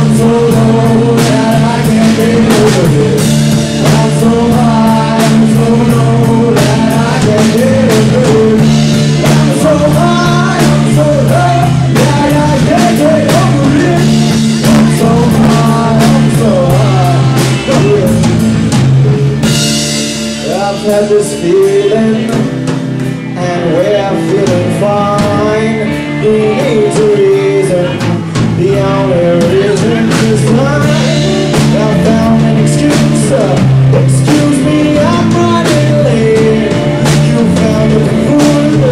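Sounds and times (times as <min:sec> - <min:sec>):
person singing: 0:00.0 - 0:18.6, 0:20.3 - 0:38.9
bass guitar: 0:00.0 - 0:38.9
drum kit: 0:00.0 - 0:38.9
electric guitar: 0:00.0 - 0:38.9.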